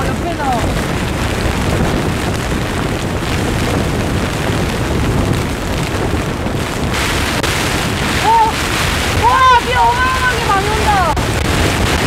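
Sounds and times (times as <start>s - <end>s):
hiss of heavier rain: 0.0s - 12.0s
low buffets on tent fabric: 0.0s - 12.0s
wind and rain battering a tent: 0.0s - 12.0s.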